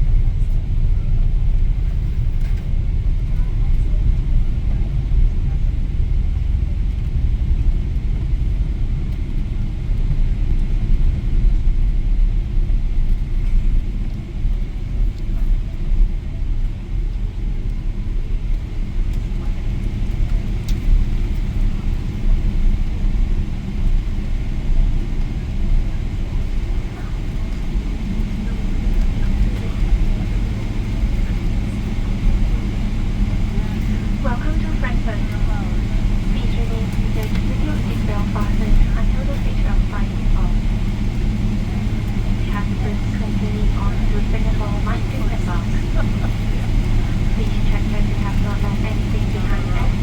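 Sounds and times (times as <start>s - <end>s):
airliner cabin rumble: 0.0s - 50.0s.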